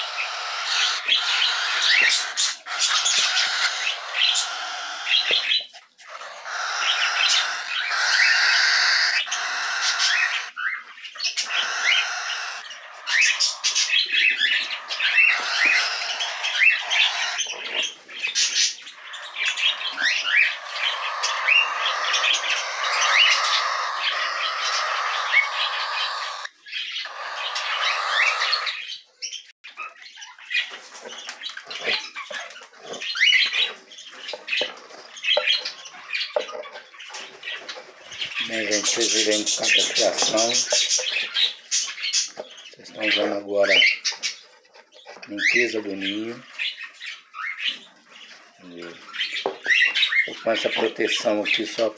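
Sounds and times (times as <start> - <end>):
cockatiels squawking and chirping: 0.0 - 51.9.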